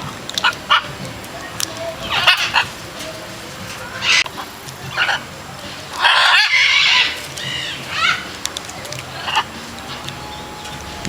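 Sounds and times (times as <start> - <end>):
large bird screechy calls: 0.0 - 11.0.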